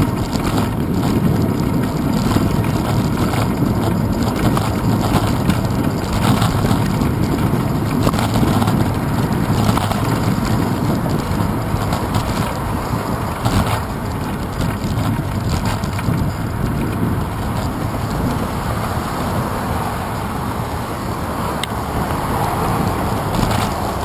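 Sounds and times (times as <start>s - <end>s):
bicycle rolling noise: 0.0s - 24.0s
wind buffeting microphone: 0.0s - 24.0s.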